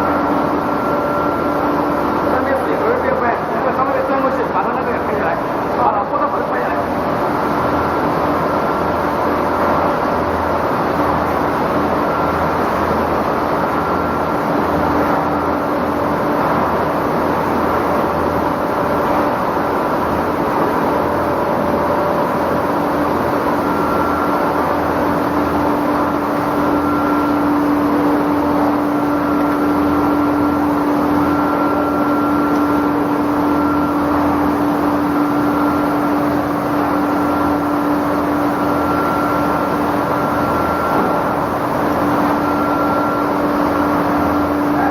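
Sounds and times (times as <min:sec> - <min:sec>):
constant machine hum: 0:00.0 - 0:44.9
faint high machine tone: 0:00.0 - 0:44.9.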